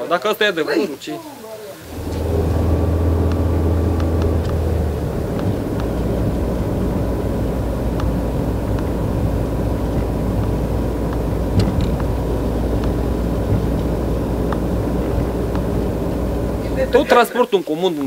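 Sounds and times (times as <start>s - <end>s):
faint steady whine: 1.8s - 17.3s
engine running with low rumble: 1.9s - 17.1s
light ticks: 2.0s - 16.9s.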